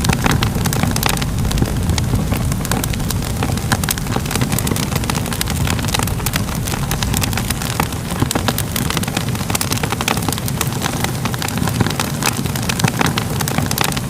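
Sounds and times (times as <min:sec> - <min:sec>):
low rumble: 0:00.0 - 0:11.5
fire crackling and popping: 0:00.0 - 0:14.0.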